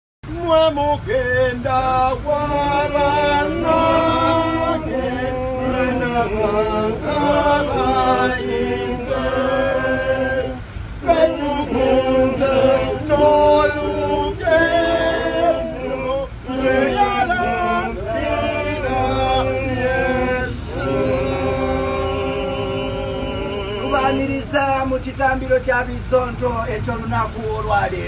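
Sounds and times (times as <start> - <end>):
men singing a cappella: 0.2 - 28.0.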